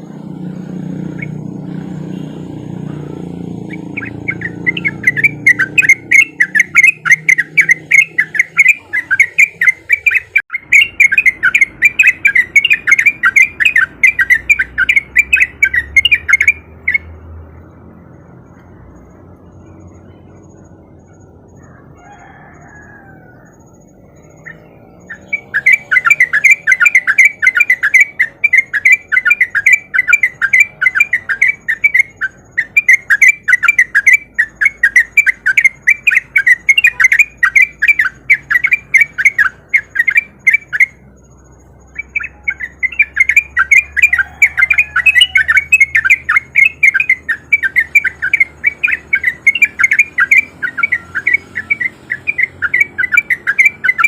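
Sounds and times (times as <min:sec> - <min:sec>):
bird chattering song: 0:00.0 - 0:22.4, 0:23.2 - 0:54.0.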